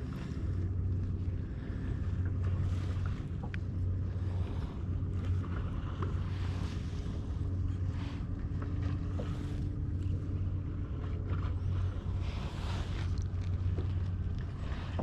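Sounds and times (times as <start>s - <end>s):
steady low drone: 0.0s - 15.0s
water splashing against kayak: 0.0s - 15.0s
wind on microphone: 0.0s - 15.0s.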